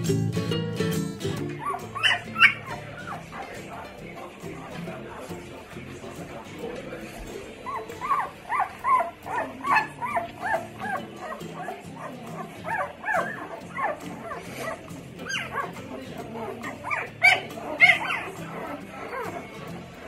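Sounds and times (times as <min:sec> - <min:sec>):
background music: 0:00.0 - 0:20.0
puppies squeaking and whimpering: 0:01.3 - 0:05.7, 0:07.0 - 0:20.0.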